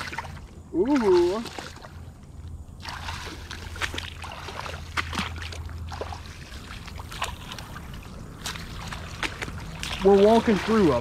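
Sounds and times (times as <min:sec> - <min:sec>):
footsteps splashing through water: 0:00.0 - 0:02.0, 0:02.8 - 0:11.0
low steady hum: 0:00.0 - 0:11.0.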